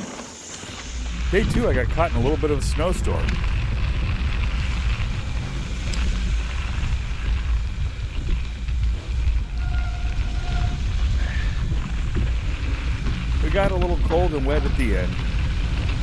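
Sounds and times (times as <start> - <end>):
mountain bike tyre noise on trail: 0.0 - 16.0
wind rumbling on microphone: 0.0 - 16.0.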